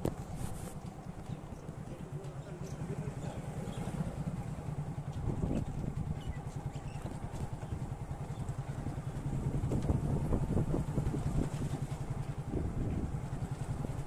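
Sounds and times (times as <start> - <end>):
motorcycle engine running: 0.0 - 14.0
road noise: 0.0 - 14.0.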